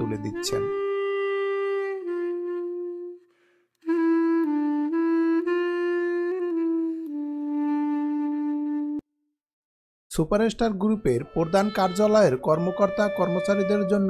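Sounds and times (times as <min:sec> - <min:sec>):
slow solo melody: 0:00.0 - 0:03.2, 0:03.8 - 0:09.0, 0:11.0 - 0:14.0.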